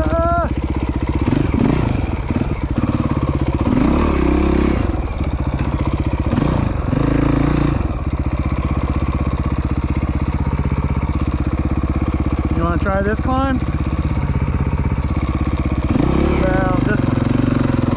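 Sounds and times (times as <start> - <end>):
dirt bike engine idling and revving: 0.0 - 17.9.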